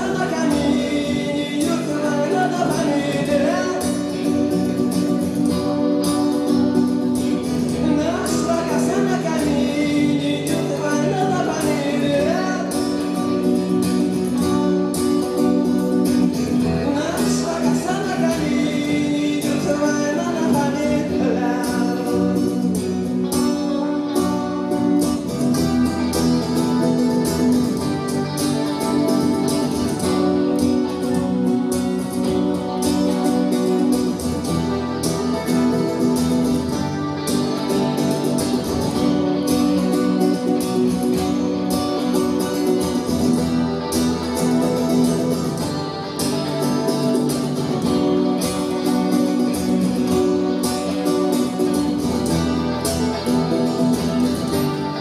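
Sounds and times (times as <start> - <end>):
acoustic-electric guitar: 0.0 - 55.0
electric guitar: 0.0 - 55.0
person singing: 0.0 - 55.0.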